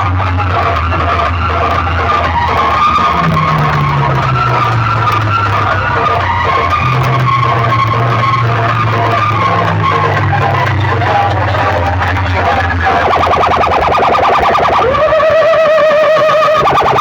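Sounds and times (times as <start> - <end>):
deep bass line: 0.0 - 17.0
loud distorted music: 0.0 - 17.0.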